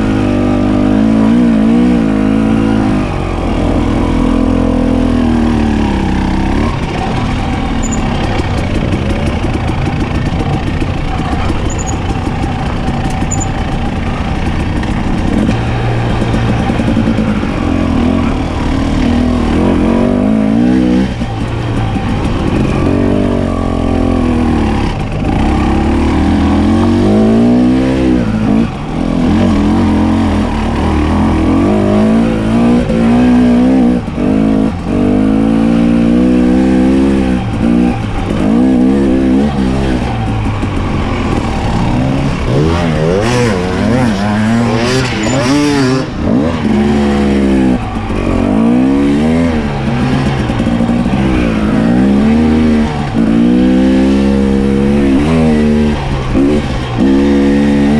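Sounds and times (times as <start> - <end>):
clatter: 0.0 - 57.9
off-road motorcycle engine revving: 0.0 - 57.9.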